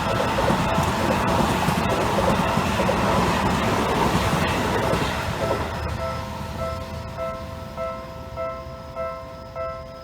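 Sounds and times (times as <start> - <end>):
low train rumble: 0.0 - 10.0
two-tone crossing warning bell: 0.0 - 10.0.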